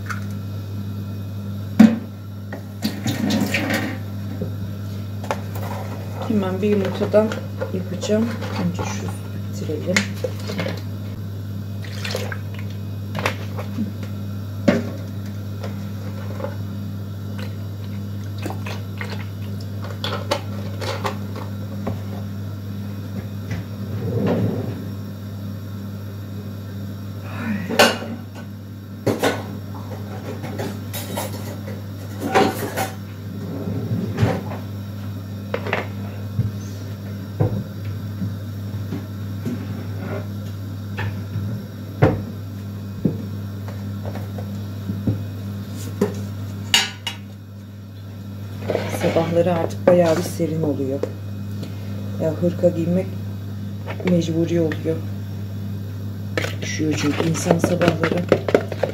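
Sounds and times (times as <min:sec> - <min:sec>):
steady low hum: 0:00.0 - 0:58.9.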